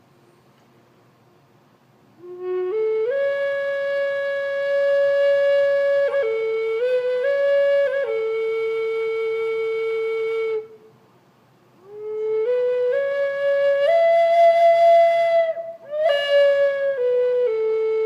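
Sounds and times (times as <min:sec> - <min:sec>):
flute playing slow solo: 0:02.2 - 0:11.0, 0:11.8 - 0:18.0.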